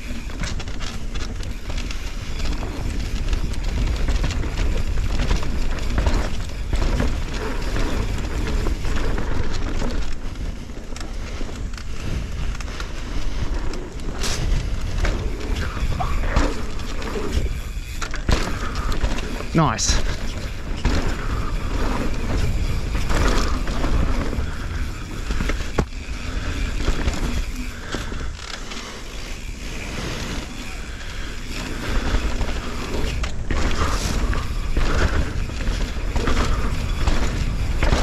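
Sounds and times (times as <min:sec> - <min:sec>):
bike knocking and rattling: 0:00.0 - 0:38.0
tyre and wind rumble: 0:00.0 - 0:38.0.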